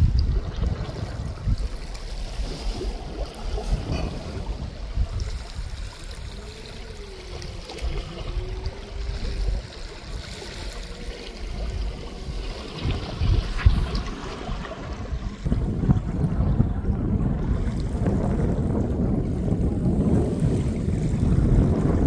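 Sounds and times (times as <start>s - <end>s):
trickling water: 0.0s - 22.0s
wind buffeting the microphone: 0.0s - 22.0s.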